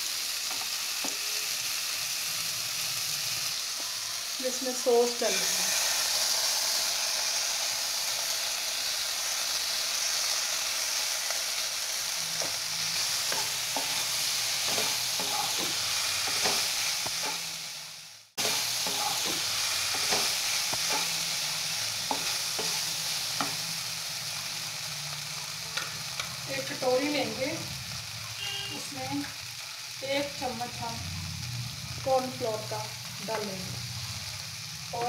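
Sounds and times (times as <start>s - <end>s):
vegetables sizzling in hot oil: 0.0s - 35.0s.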